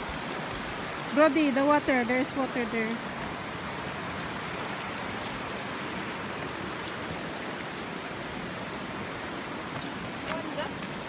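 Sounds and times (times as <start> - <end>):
river rushing over gravel: 0.0 - 11.0.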